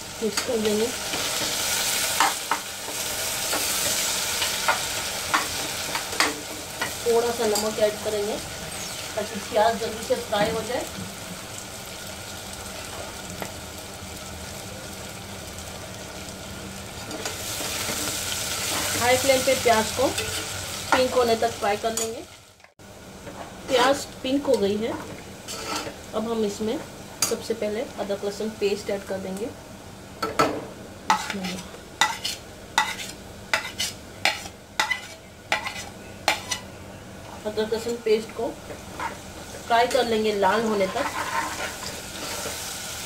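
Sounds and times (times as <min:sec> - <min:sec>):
onions sizzling in hot oil: 0:00.0 - 0:43.0.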